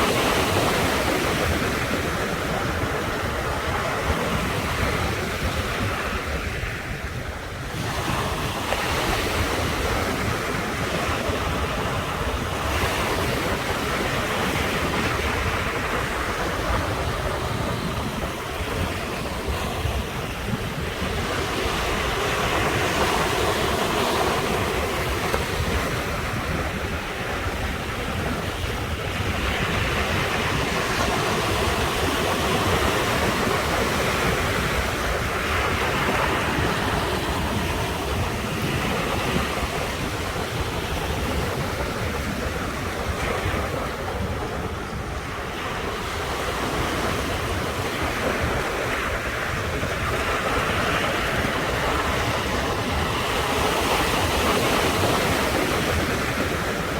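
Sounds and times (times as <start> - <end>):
ocean waves breaking on shore: 0.0 - 56.9.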